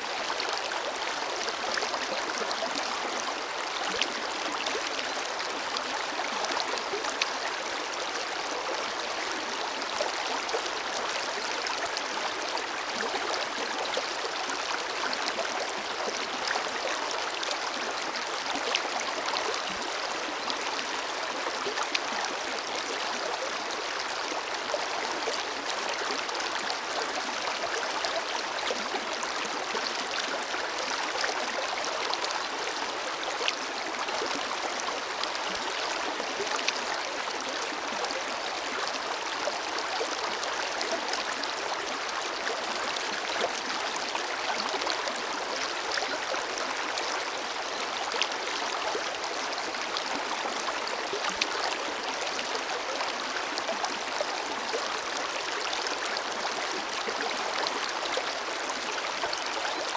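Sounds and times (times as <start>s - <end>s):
forest river flowing: 0.0s - 59.9s.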